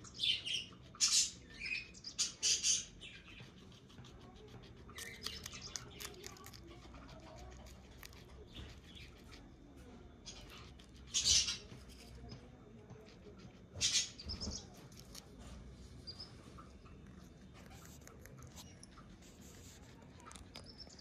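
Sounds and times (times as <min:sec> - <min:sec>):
guinea pig nibbling: 0:00.0 - 0:21.0.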